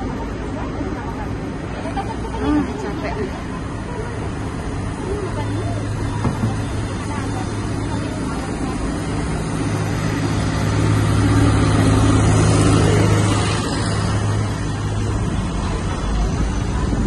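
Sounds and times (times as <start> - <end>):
street traffic: 0.0 - 17.0
tram running hum: 0.0 - 17.0
truck passing: 0.0 - 17.0.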